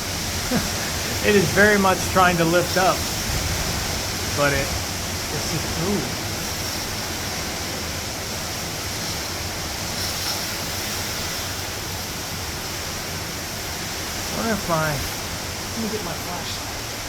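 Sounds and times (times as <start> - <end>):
heavy rain: 0.0 - 17.0
hurricane wind: 0.0 - 17.0.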